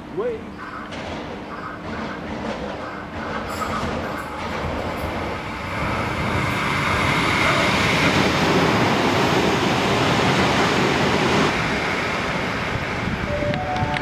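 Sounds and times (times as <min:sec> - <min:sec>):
train rushing past: 0:00.6 - 0:14.0.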